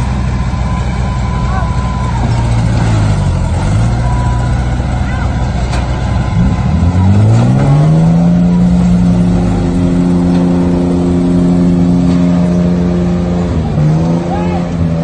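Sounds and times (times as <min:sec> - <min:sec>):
heavy diesel engine labouring: 0:00.0 - 0:15.0.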